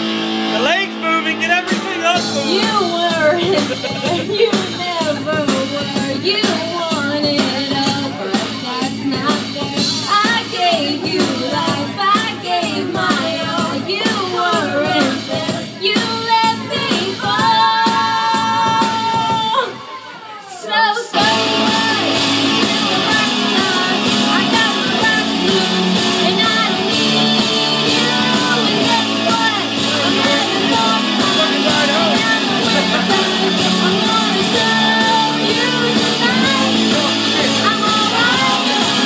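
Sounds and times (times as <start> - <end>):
backing track with a beat: 0.0 - 19.8, 21.1 - 39.0
woman singing into a microphone: 2.4 - 39.0.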